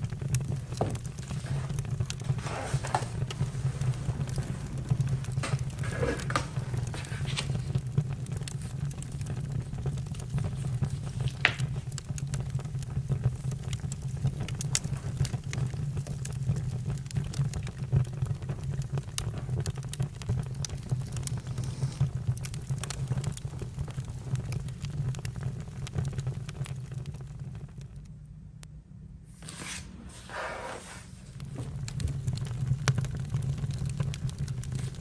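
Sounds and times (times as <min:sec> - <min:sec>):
campfire crackling: 0:00.0 - 0:28.2, 0:29.4 - 0:35.0.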